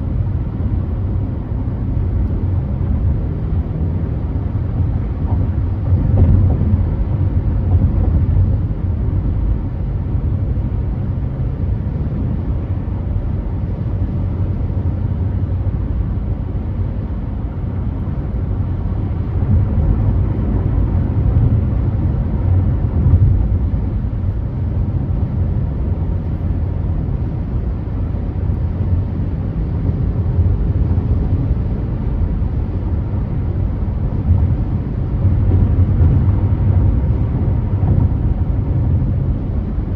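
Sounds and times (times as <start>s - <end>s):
car driving on freeway: 0.0s - 39.9s.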